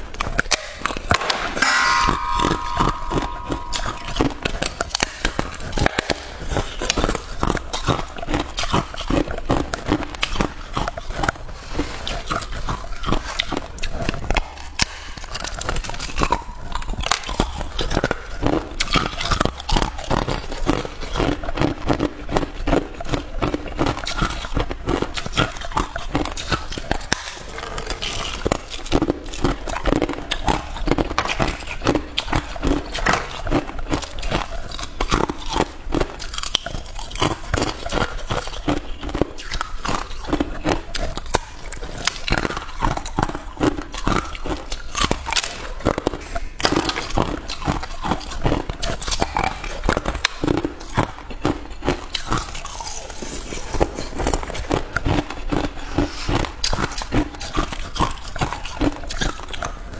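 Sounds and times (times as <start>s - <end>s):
ice being chewed: 0.0s - 1.3s, 2.2s - 59.9s.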